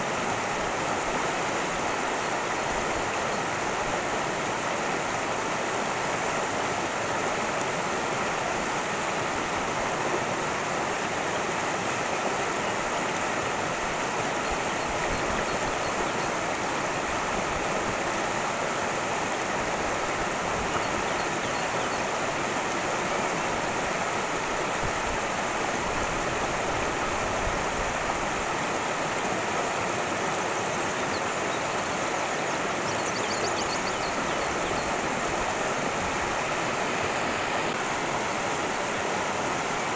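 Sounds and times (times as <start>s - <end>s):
creek water running and splashing: 0.0s - 39.9s.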